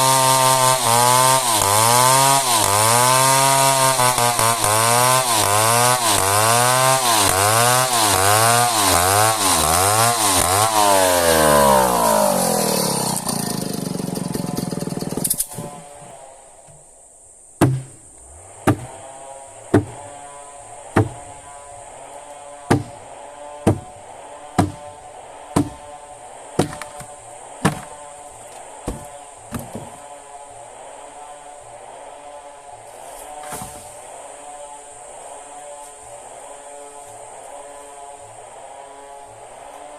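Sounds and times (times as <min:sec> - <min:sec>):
chainsaw cutting wood: 0:00.0 - 0:16.9, 0:17.6 - 0:39.9.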